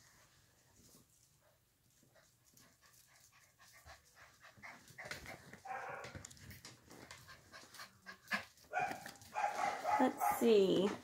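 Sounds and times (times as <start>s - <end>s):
puppies scuffling: 0.0s - 11.0s.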